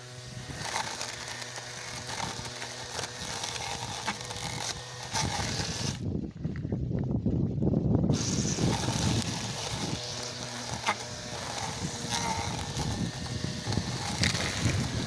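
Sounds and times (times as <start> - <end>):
cutting line hiss: 0.0 - 6.0, 8.1 - 15.0
string trimmer motor whine: 0.0 - 6.1, 8.1 - 15.0.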